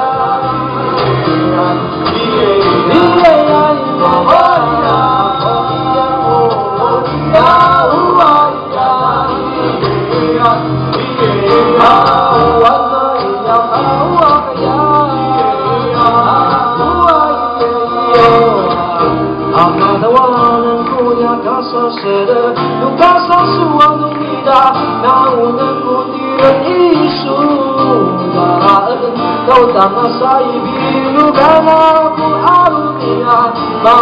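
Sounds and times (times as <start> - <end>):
men singing: 0.0 - 34.0
strummed acoustic guitar: 0.0 - 34.0.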